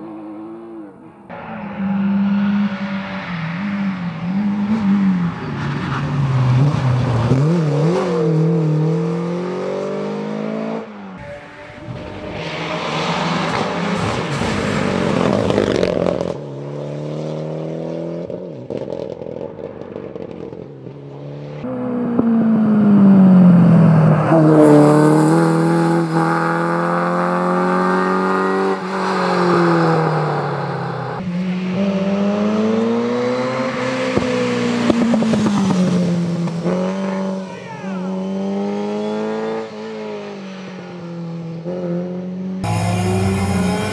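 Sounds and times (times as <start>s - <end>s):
rally cars passing at full speed: 0.0s - 43.9s.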